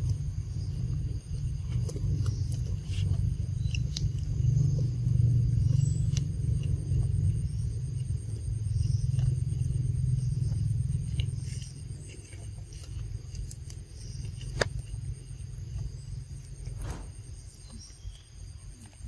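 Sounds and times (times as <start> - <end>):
low rumble: 0.0 - 18.6
steady high-pitched hum: 0.0 - 19.0.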